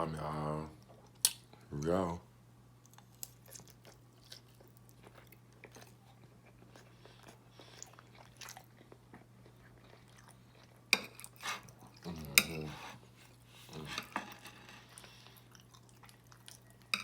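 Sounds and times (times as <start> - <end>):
person chewing: 2.8 - 17.0.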